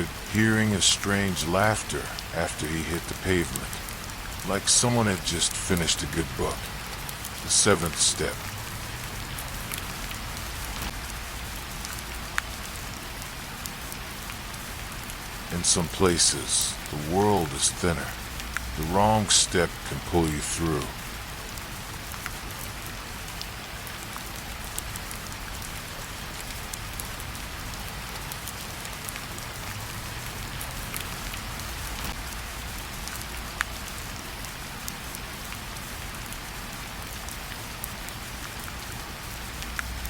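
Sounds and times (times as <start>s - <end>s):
rain pattering: 0.0s - 40.0s
sharp raindrop ticks: 0.0s - 40.0s.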